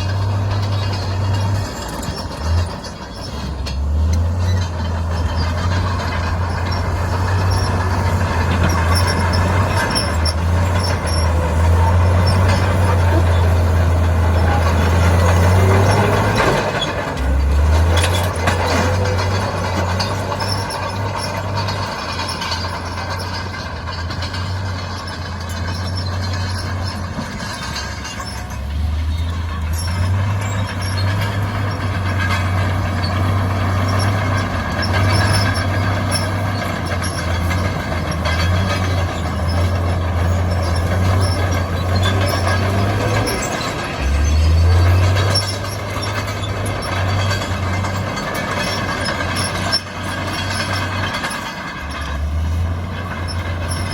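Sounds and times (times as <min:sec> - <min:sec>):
heavy diesel machinery engine: 0:00.0 - 0:53.9.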